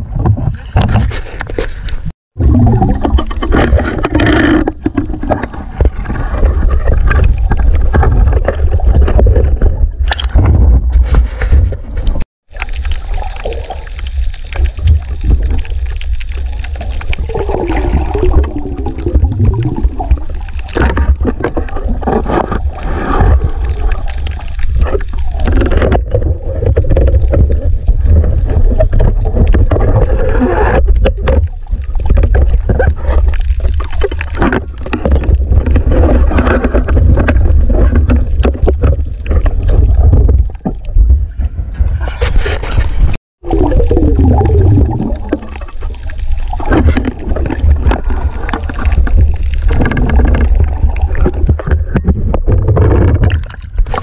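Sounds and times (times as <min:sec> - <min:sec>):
underwater low rumble: 0:01.8 - 0:54.0
bubbly gurgles: 0:02.3 - 0:11.0, 0:12.4 - 0:41.3, 0:43.4 - 0:54.0.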